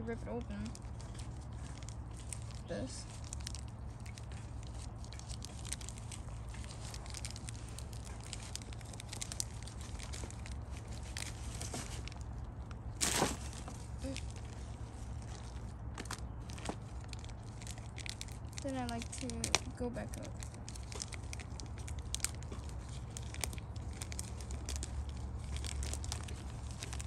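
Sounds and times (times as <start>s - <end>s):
plastic wrapper crinkling: 0.0s - 27.0s
wrapper ripping: 0.7s - 27.0s.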